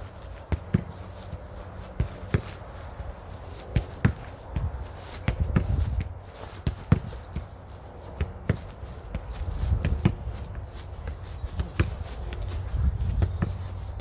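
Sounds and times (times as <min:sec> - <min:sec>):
running footsteps: 0:00.0 - 0:14.0
soccer ball kicks: 0:00.0 - 0:14.0.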